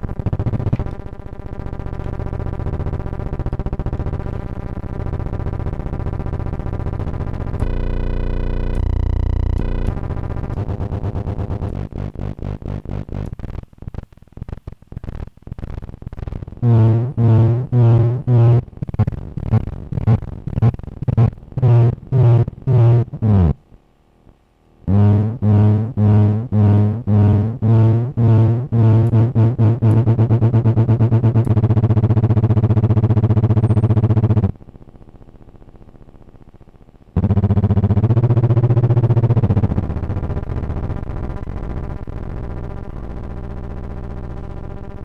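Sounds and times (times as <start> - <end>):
distorted buzzing electronic tone: 0.0 - 23.7, 24.9 - 36.4, 37.2 - 45.0.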